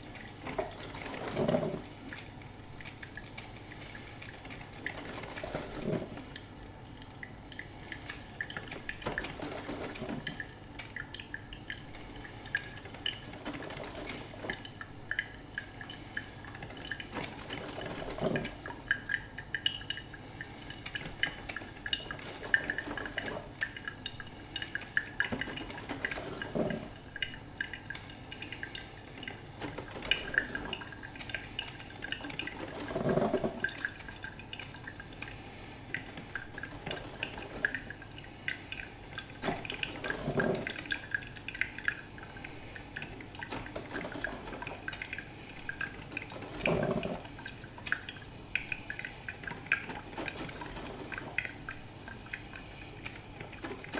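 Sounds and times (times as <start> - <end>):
coffee machine dripping and crackling: 0.0 - 53.9
coffee machine gurgling: 0.0 - 53.9.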